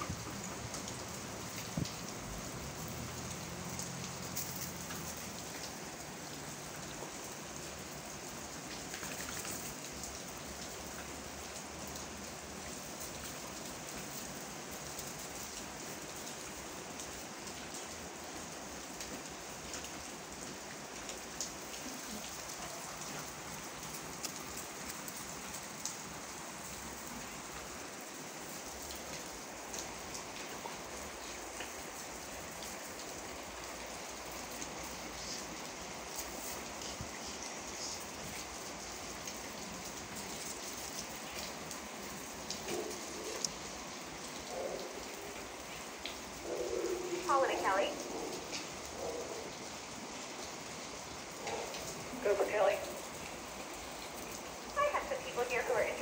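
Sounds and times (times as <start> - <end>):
steady rain: 0.0 - 56.0
water drips ticking: 0.0 - 56.0.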